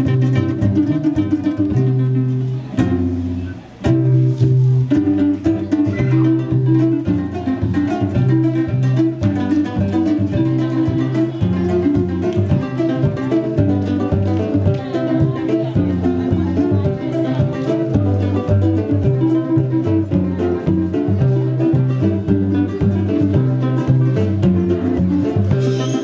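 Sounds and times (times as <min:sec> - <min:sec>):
deep bass line: 0:00.0 - 0:26.0
plucked bow harps: 0:00.0 - 0:26.0.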